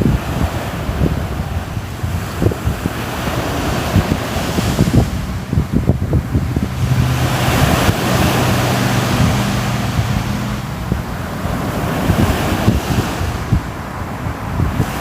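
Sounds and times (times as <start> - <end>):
sea waves washing on shore: 0.0 - 15.0
wind buffeting microphone: 0.0 - 15.0.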